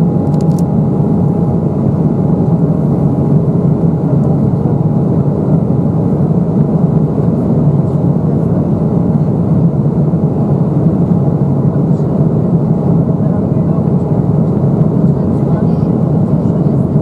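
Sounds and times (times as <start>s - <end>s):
jet airliner cabin rumble: 0.0s - 17.0s.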